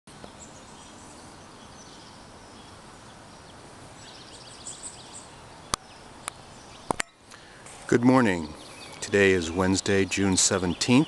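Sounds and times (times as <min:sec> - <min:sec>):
outdoor background hiss: 0:00.1 - 0:11.0
small birds chirping: 0:00.1 - 0:11.0.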